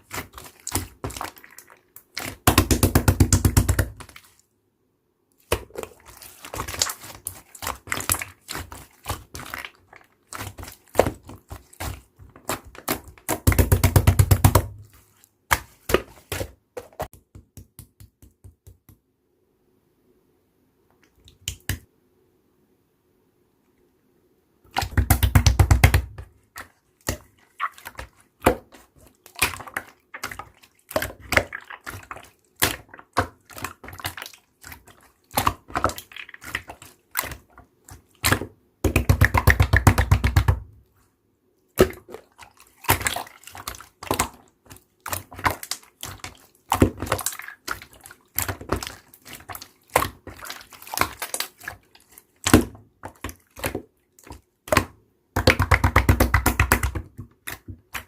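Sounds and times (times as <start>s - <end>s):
slime squishing: 0.0s - 4.5s, 5.4s - 17.8s, 24.7s - 41.0s, 41.7s - 58.0s.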